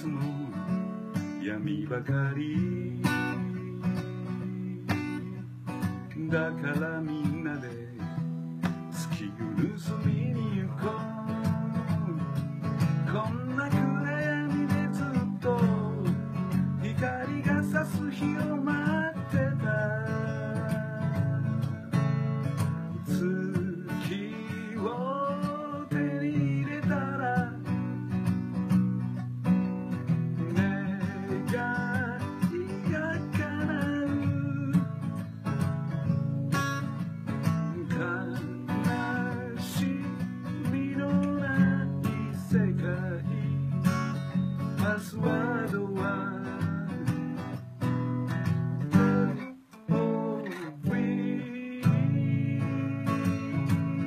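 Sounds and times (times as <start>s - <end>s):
man singing: 0.0s - 28.5s, 30.0s - 54.0s
acoustic guitar strumming: 0.0s - 54.0s.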